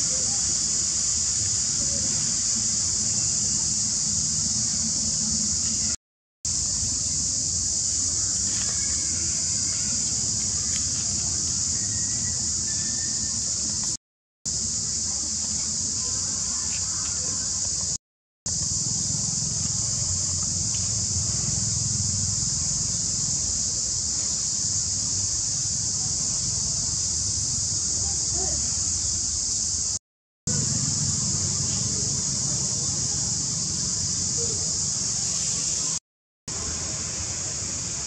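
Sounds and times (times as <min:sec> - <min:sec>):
insect chorus drone: 0:00.0 - 0:38.0.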